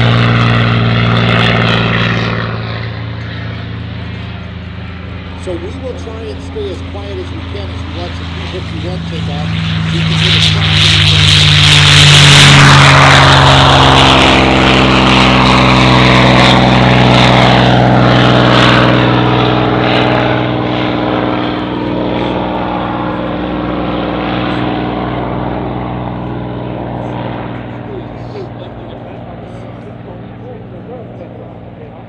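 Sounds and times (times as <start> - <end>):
propeller aircraft engine drone: 0.0 - 32.0.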